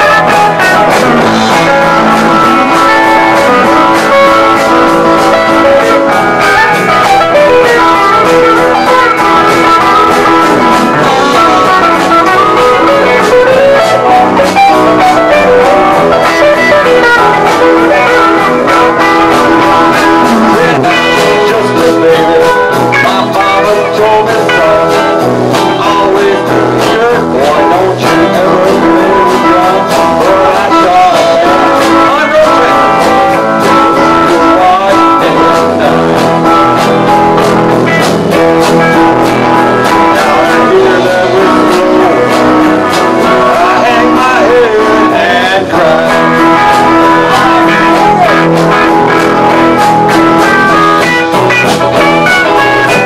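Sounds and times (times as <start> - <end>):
bass guitar: 0.0 - 53.0
drum kit: 0.0 - 53.0
electric guitars: 0.0 - 53.0.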